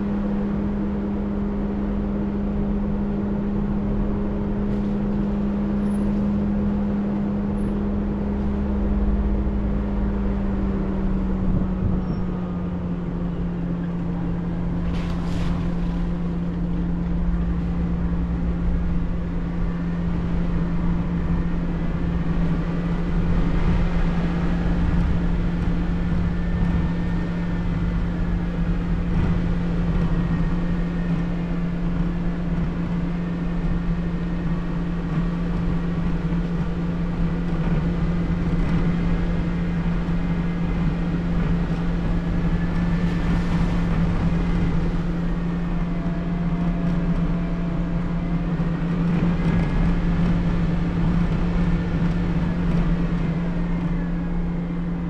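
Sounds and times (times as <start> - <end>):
off-road vehicle engine droning: 0.0 - 55.0.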